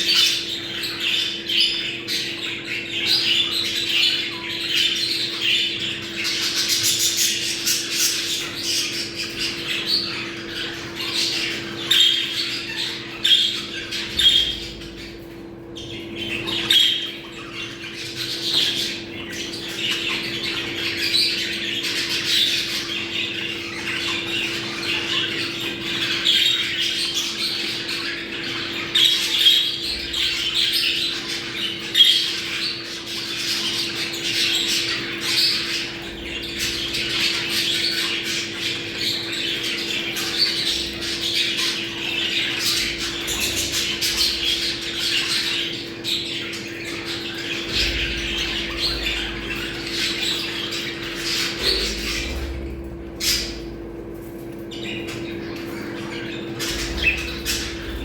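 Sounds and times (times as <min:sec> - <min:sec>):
budgerigars chattering and warbling: 0:00.0 - 0:58.0.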